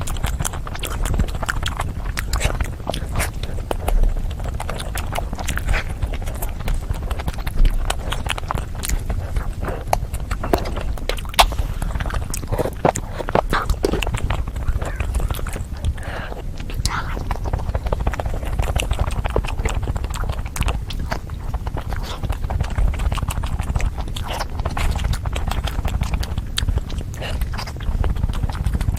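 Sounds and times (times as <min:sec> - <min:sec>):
chewing and mouth sounds: 0:00.0 - 0:28.9
wet smacks and clicks: 0:00.0 - 0:28.9.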